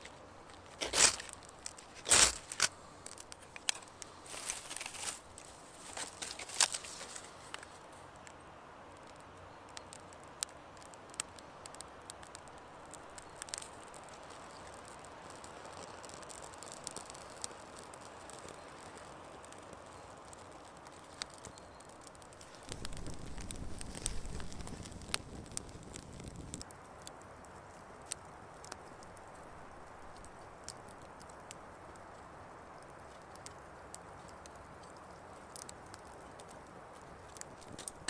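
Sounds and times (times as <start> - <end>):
faint steady hiss: 0.0 - 38.0
fire snaps and crackles: 0.0 - 38.0.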